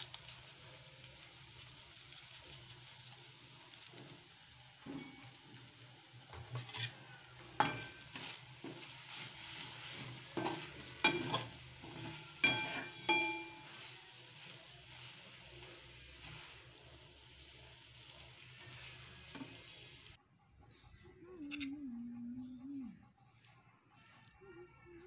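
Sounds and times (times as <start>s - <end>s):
noodles stirred and tossed: 0.0s - 20.2s
soft sizzle of frying: 0.0s - 20.2s.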